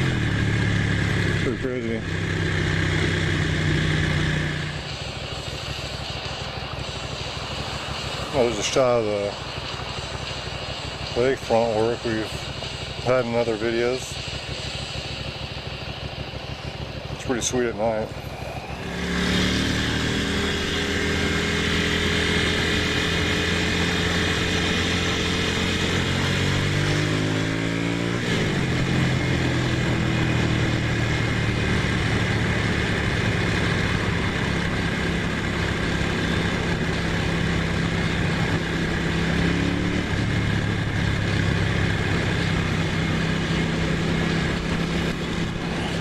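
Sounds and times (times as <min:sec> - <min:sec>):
motorcycle engine accelerating: 0:00.0 - 0:46.0
wind and road noise: 0:00.0 - 0:46.0.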